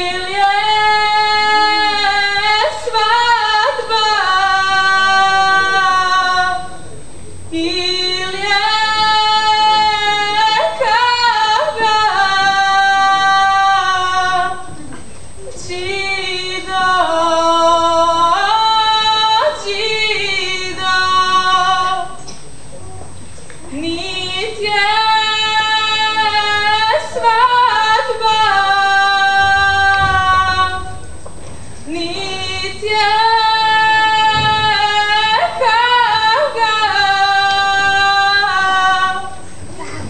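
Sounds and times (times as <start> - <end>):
women singing folk song: 0.0 - 6.8, 7.5 - 15.0, 15.6 - 22.3, 23.6 - 40.0.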